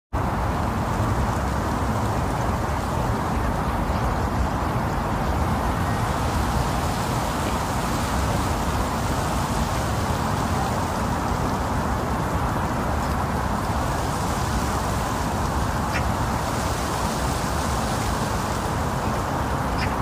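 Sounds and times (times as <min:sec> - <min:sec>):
wind blowing steadily: 0:00.1 - 0:20.0.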